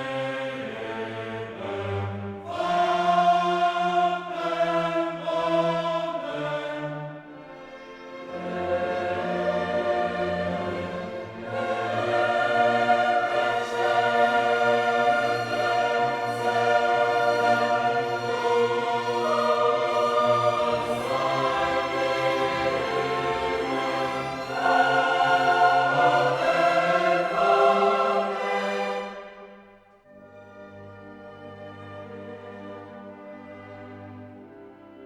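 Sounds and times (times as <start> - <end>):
choir singing with orchestra: 0.0 - 35.0.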